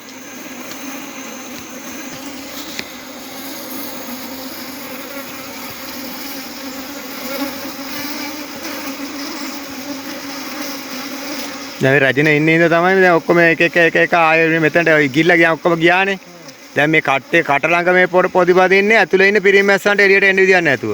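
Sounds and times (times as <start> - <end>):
bees buzzing: 0.0 - 20.9.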